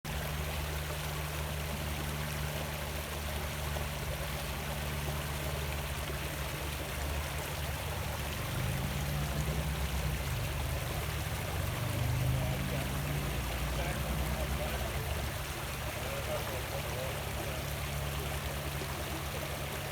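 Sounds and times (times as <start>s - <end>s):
creek flowing over rocks: 0.0s - 19.9s.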